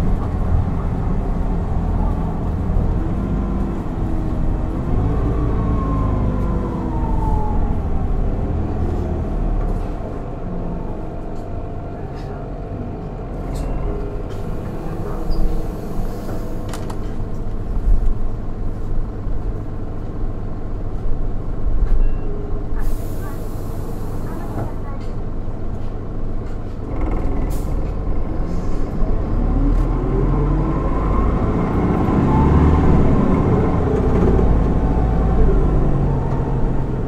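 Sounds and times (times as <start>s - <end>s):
bus engine rumble: 0.0s - 37.0s.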